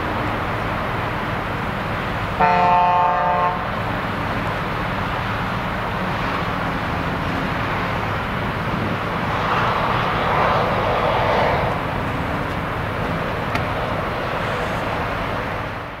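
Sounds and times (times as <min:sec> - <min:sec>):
heavy truck passing: 0:00.0 - 0:16.0
motorway traffic noise: 0:00.0 - 0:16.0.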